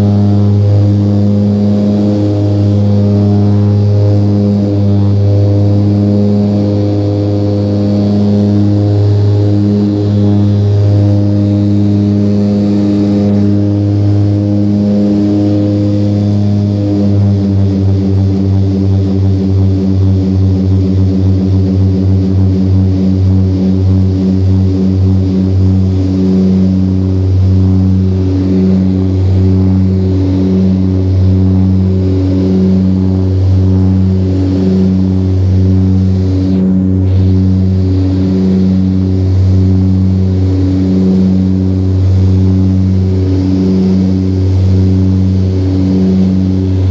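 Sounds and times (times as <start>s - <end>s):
pulsing propeller beat: 0.0s - 46.9s
turboprop engines droning: 0.0s - 46.9s.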